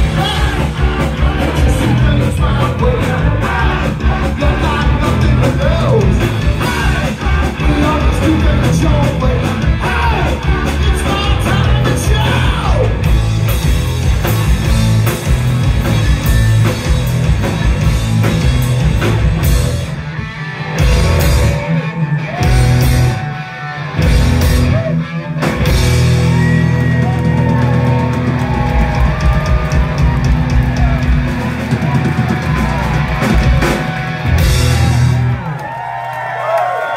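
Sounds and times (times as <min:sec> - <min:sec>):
live rock band playing: 0:00.0 - 0:36.0.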